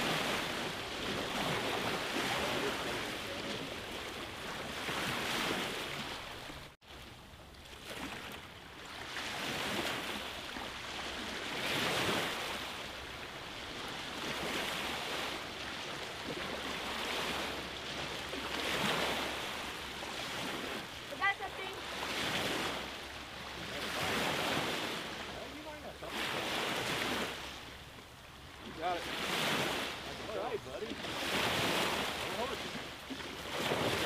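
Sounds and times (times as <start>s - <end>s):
small waves washing on sand: 0.0s - 34.0s.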